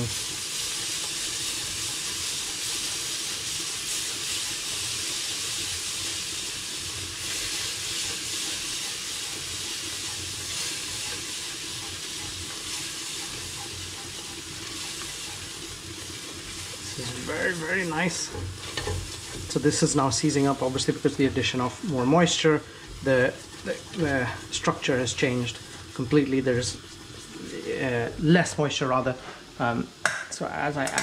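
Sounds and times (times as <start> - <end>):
paste sizzling in hot oil: 0.0 - 30.8.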